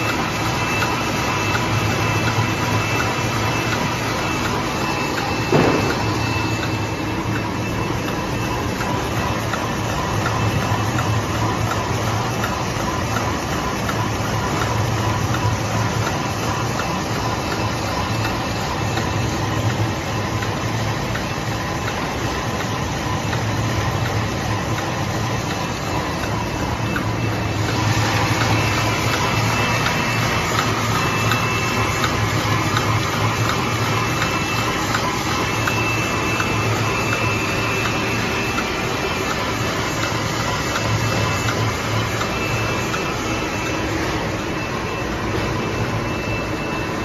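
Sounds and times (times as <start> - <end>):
machinery hum: 0.0 - 47.0.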